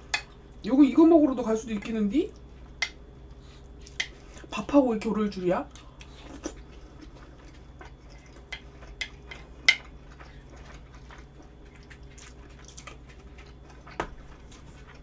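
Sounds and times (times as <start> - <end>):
low steady room hum: 0.0 - 15.0.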